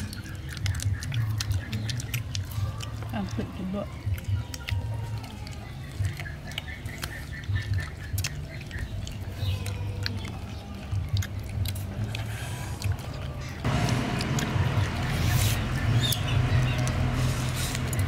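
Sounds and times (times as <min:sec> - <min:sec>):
people chewing crispy chicken: 0:00.0 - 0:18.0.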